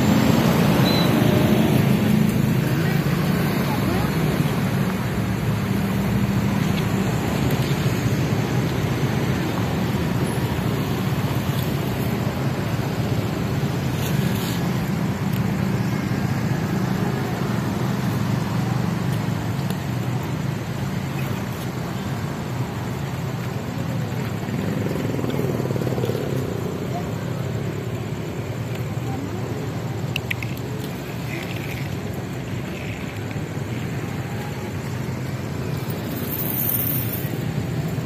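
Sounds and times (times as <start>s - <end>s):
motorcycles passing: 0.0s - 38.0s.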